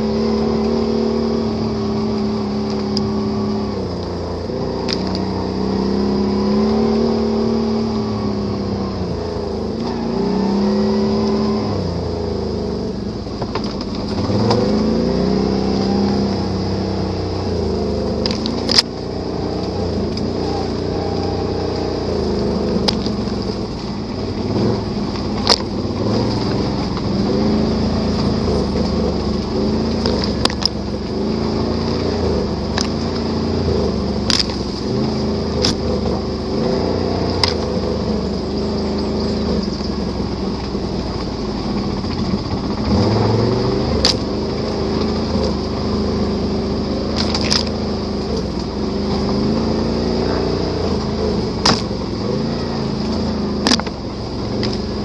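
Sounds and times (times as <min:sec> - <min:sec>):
knocks and rattles over rough ground: 0:00.0 - 0:55.0
off-road vehicle engine revving: 0:00.0 - 0:55.0.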